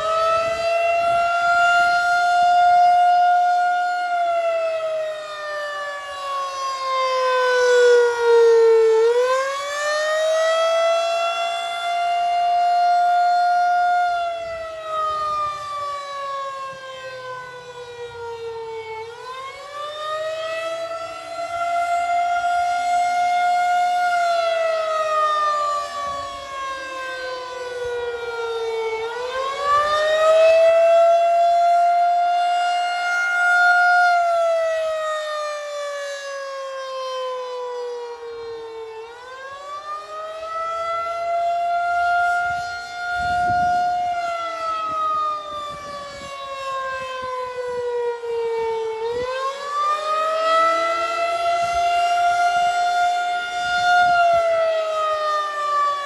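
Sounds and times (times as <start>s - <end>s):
wailing outdoor warning siren: 0.0s - 56.0s.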